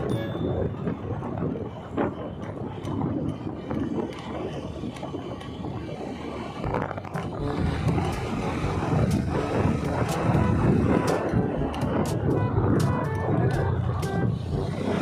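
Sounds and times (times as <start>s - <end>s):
motorcycle engine and road rumble: 0.0s - 15.0s.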